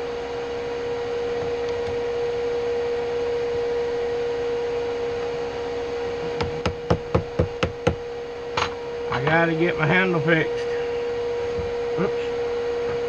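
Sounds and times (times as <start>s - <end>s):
lathe electric hum: 0.0s - 13.0s.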